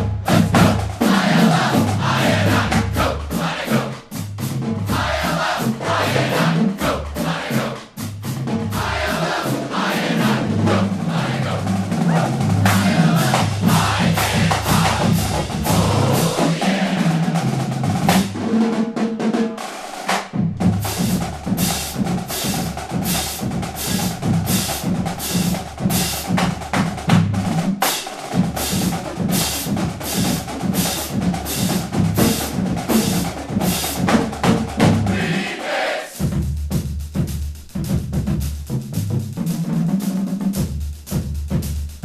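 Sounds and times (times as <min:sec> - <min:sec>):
bass drums: 0:00.0 - 0:18.5, 0:20.1 - 0:35.5, 0:36.2 - 0:42.0
snare drums: 0:00.0 - 0:42.0.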